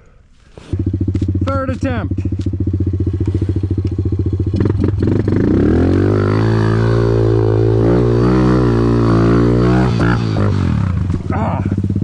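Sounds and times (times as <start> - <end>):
dirt bike engine revving: 0.7 - 12.0.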